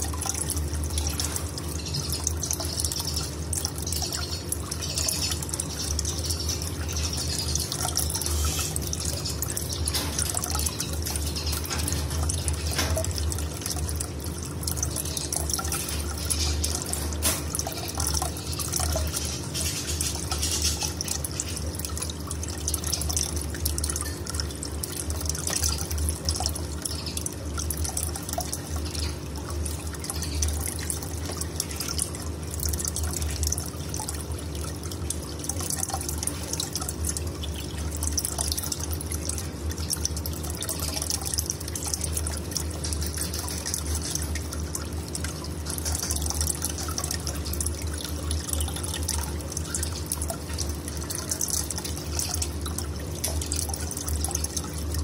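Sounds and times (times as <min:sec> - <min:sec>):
low steady hum: 0:00.0 - 0:55.0
water running and dripping: 0:00.0 - 0:55.0.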